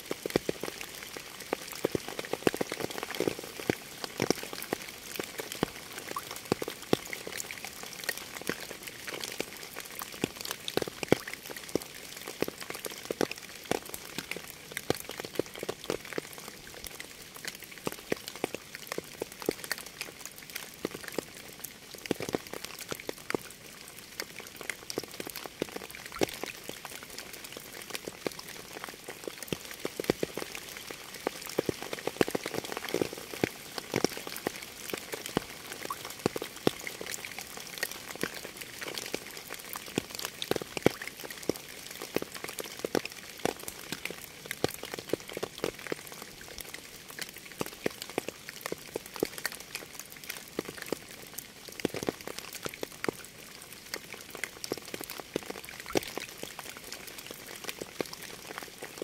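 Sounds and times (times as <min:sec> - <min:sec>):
rain falling: 0:00.0 - 0:59.0
raindrops striking a surface: 0:00.0 - 0:59.0.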